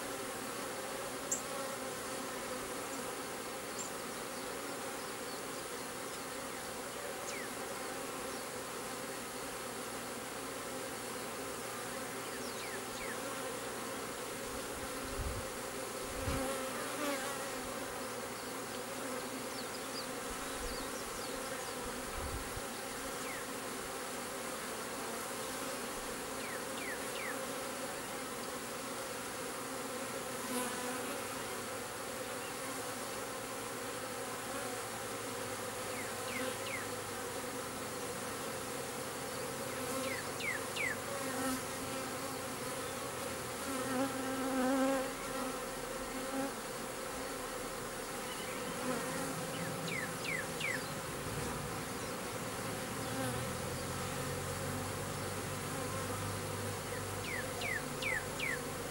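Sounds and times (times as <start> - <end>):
bee swarm buzzing: 0.0 - 58.9.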